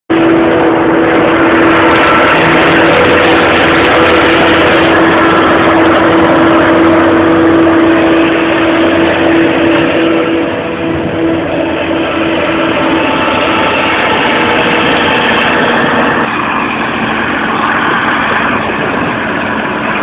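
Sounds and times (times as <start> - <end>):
constant whine: 0.1 - 20.0
forage harvester engine drone: 0.1 - 20.0.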